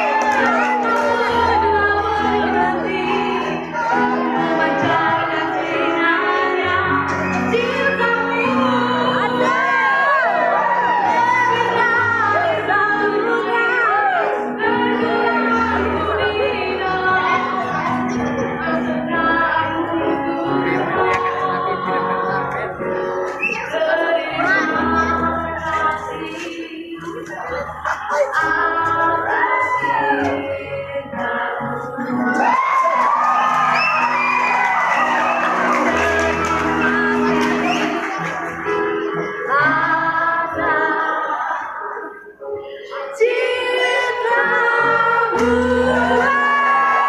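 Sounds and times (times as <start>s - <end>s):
girl singing: 0.2s - 32.6s, 39.0s - 47.0s.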